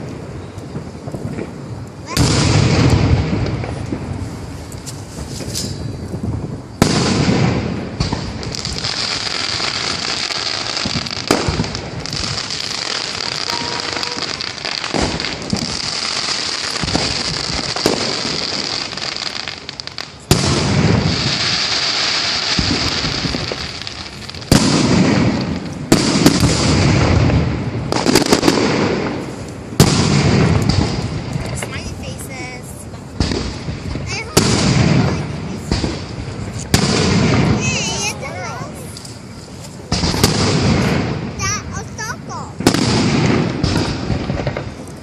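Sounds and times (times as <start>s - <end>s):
dense crackle of small pops: 0.0s - 45.0s
firework shells bursting: 0.0s - 45.0s.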